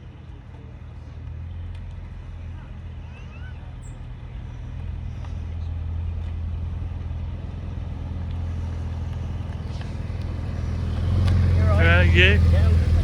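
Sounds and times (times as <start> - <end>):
vehicle engine running at low revs: 0.0 - 13.0.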